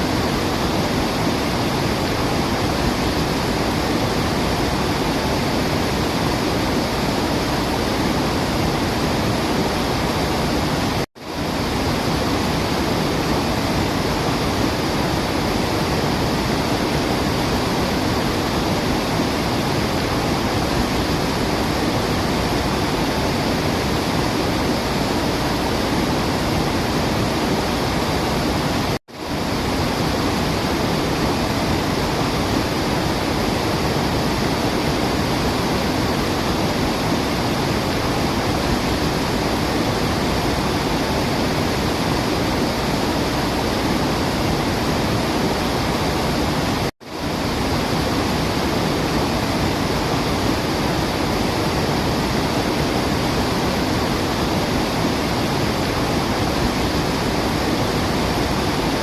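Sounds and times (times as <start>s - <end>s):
falling water rushing: 0.0s - 59.0s.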